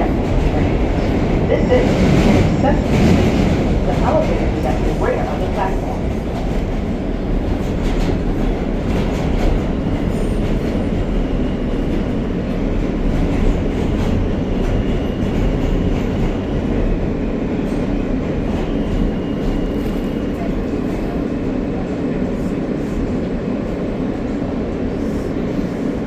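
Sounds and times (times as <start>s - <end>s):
subway car rumble: 0.0s - 26.0s.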